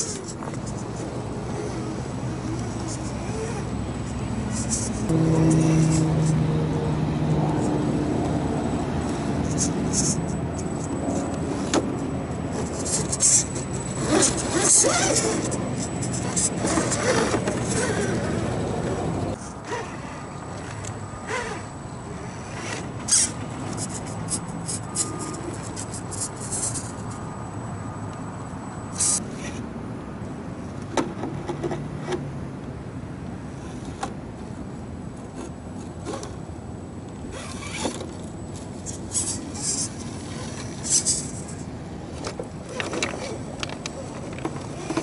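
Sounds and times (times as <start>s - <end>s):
electric motor and gears whining: 0.0s - 29.6s, 35.2s - 45.0s.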